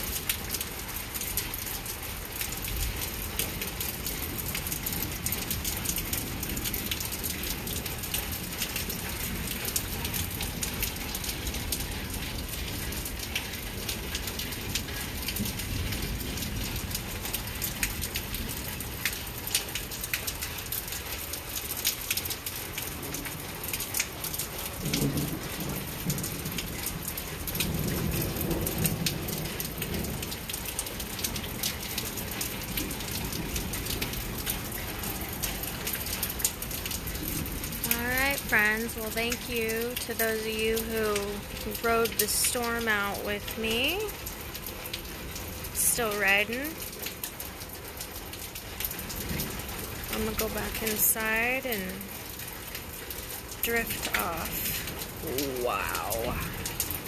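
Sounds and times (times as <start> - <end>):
heavy rain falling: 0.0 - 57.0
raindrops striking a surface: 0.0 - 57.0.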